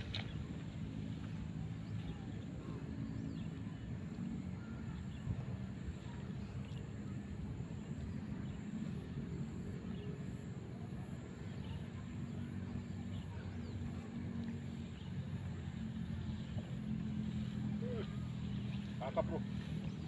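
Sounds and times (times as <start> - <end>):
low motor drone: 0.0 - 20.0.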